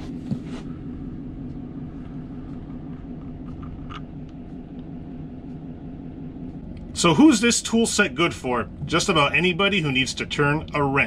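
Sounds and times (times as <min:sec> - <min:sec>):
machine rumble and hum: 0:00.0 - 0:11.0.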